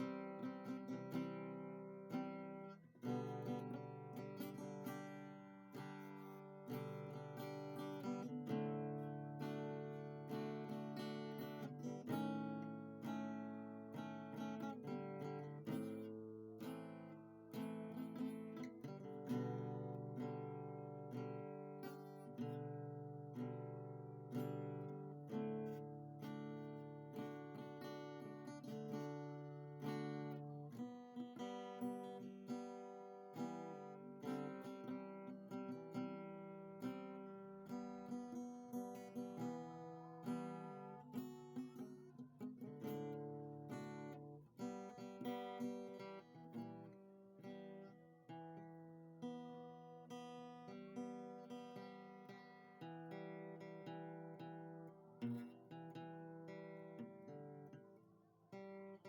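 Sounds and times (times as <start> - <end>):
acoustic guitar chords: 0.0 - 59.0.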